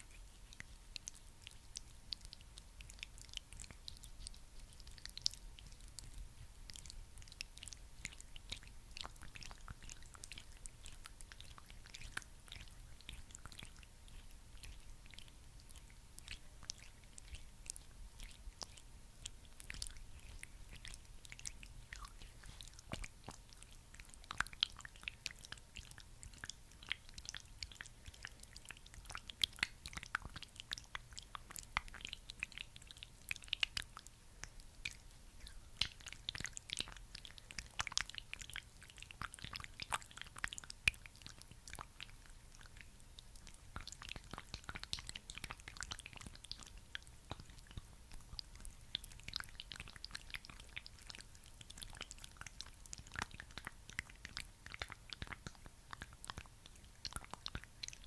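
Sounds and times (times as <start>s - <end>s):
wet crackling of skincare product: 0.0s - 58.0s.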